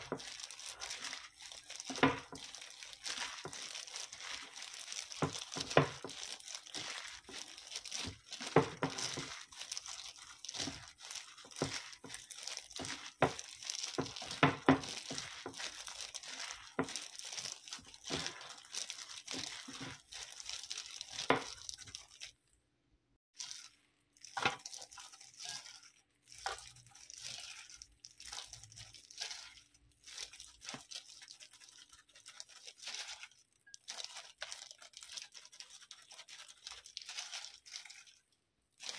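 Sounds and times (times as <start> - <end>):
plastic glove crinkling: 0.0 - 22.6, 23.4 - 38.9.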